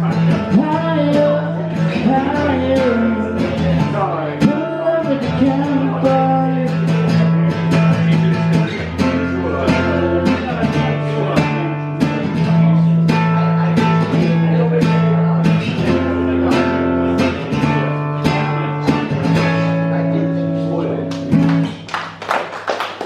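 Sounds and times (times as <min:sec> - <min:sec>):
acoustic guitar strumming chords: 0:00.0 - 0:21.9.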